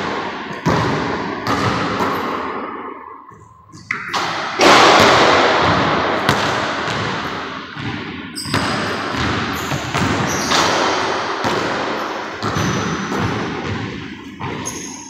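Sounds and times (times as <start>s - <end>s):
basketball banging on rim: 0.0s - 2.5s, 3.9s - 15.0s.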